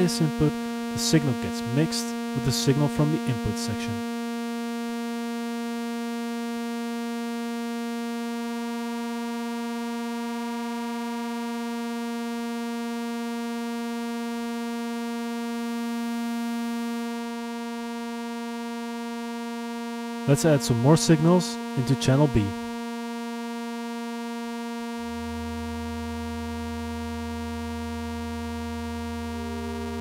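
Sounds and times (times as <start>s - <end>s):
buzzing synthesizer tone: 0.0s - 30.0s.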